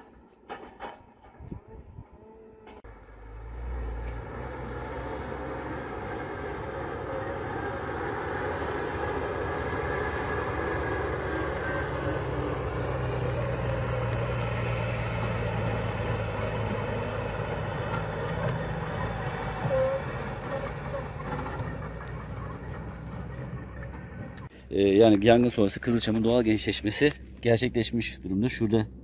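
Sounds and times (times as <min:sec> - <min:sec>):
heavy truck engine: 0:02.6 - 0:29.0.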